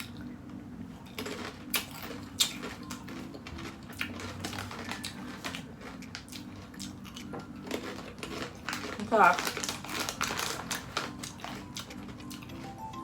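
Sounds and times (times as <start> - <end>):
crunchy snack being chewed: 1.0 - 12.8.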